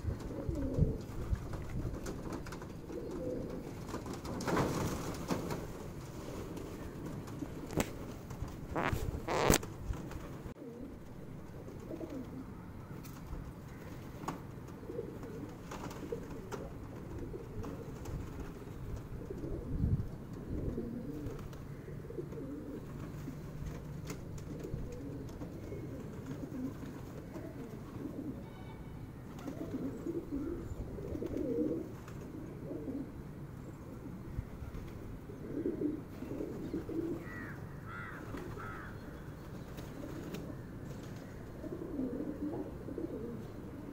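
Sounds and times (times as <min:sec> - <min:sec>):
pigeons cooing: 0:00.0 - 0:12.8, 0:13.4 - 0:28.6, 0:29.2 - 0:43.9.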